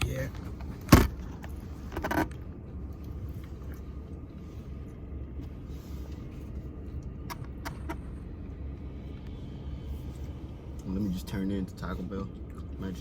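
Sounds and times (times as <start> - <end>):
vehicle cabin rumble: 0.0 - 13.0.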